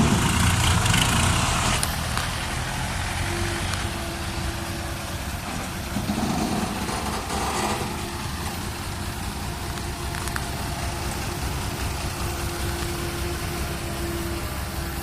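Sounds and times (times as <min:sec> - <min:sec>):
dump truck engine rumbling: 0:00.0 - 0:15.0.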